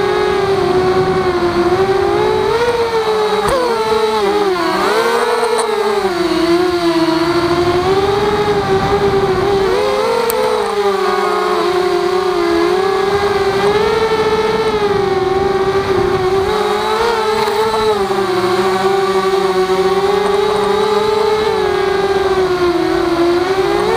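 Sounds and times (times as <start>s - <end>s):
quadcopter motors whining: 0.0s - 23.9s.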